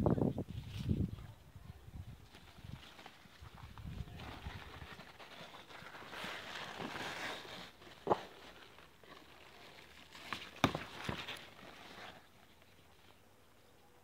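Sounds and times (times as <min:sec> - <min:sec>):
leaves and vines rustling: 0:00.4 - 0:13.2.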